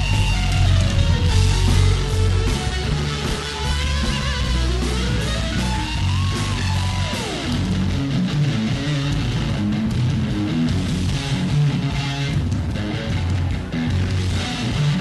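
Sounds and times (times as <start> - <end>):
bass guitar: 0.0 - 15.0
distorted electric guitar lead: 0.0 - 15.0
drums: 0.0 - 15.0.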